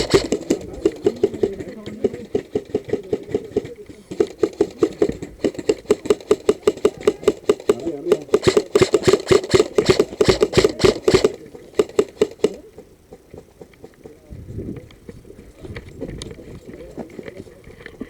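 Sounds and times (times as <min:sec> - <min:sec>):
fast footsteps on stony ground: 0:00.0 - 0:18.0.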